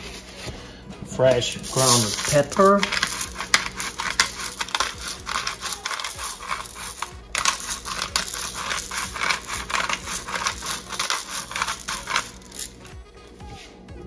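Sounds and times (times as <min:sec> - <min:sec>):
pepper mill grinding: 0:01.3 - 0:13.0.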